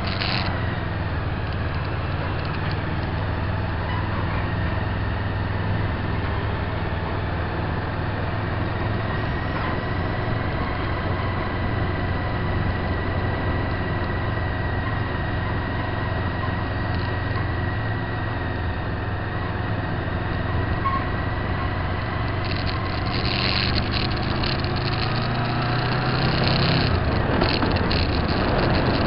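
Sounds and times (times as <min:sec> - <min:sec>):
vehicle engine drone and road noise: 0:00.0 - 0:29.0.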